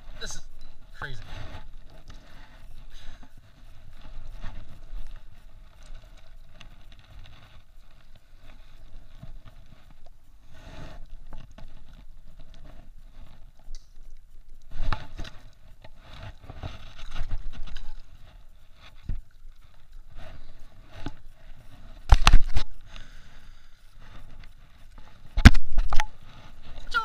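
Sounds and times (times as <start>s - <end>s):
fishing rod handling rustling: 0.0s - 27.0s.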